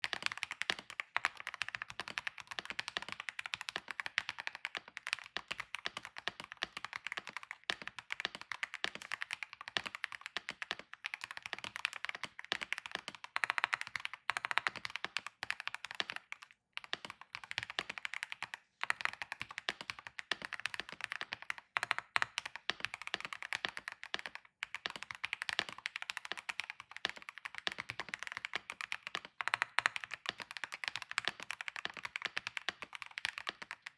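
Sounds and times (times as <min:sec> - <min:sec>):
mechanical keyboard typing: 0:00.0 - 0:33.9.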